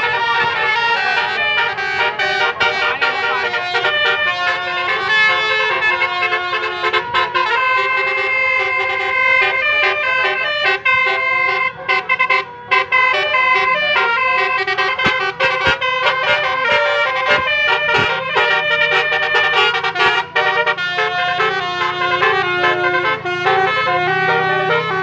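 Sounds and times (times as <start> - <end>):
multi-tone air horn melody: 0.0 - 25.0.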